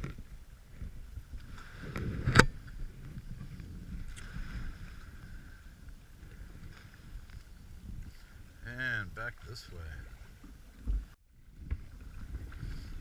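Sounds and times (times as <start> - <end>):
water sloshing from paddle: 0.0 - 13.0.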